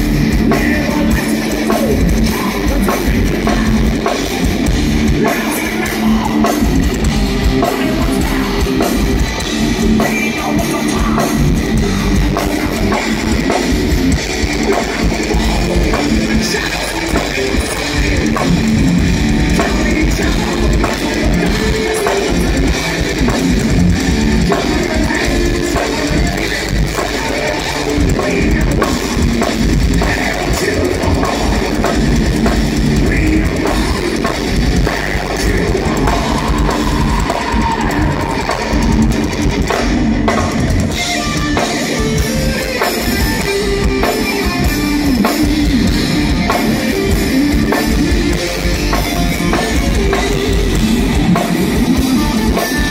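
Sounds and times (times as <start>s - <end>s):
distorted electric guitars: 0.0s - 52.9s
fast drums: 0.0s - 52.9s.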